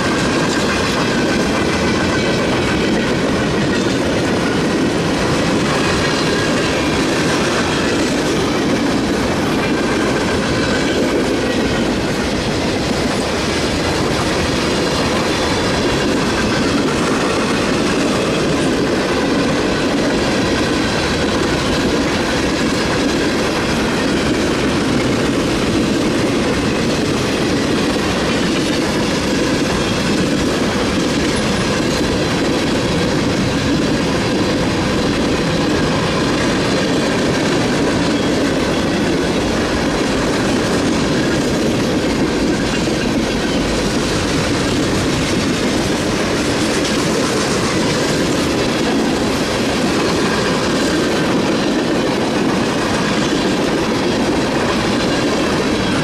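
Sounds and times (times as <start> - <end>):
freight train rolling past: 0.0 - 56.0
steel wheels rumbling on rail: 0.0 - 56.0.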